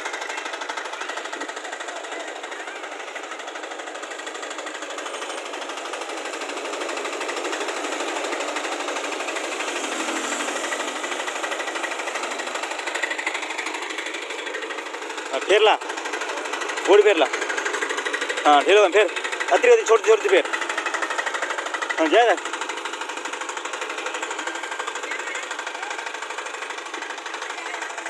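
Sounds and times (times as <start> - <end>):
engine running with knocking beat: 0.0 - 28.0.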